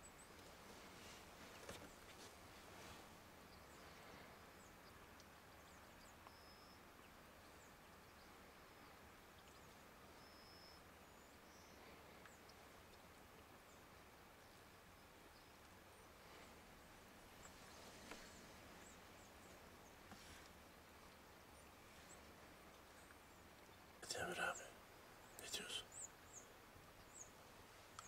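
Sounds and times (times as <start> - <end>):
faint outdoor background hiss: 0.0 - 28.0.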